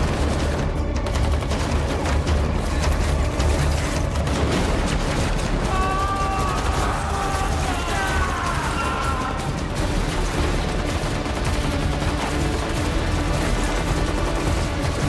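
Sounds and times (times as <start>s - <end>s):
rapid automatic gunfire: 0.0s - 15.0s.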